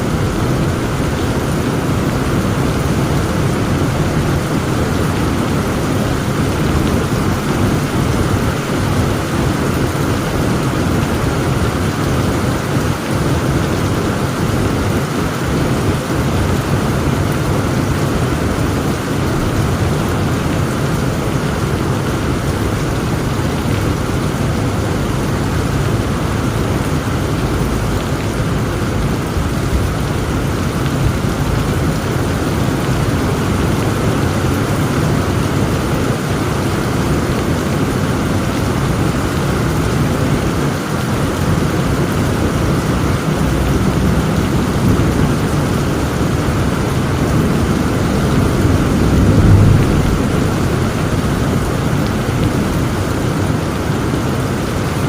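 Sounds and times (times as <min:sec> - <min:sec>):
low rumble of thunder: 0:00.0 - 0:54.8
heavy rain pouring: 0:00.0 - 0:55.0.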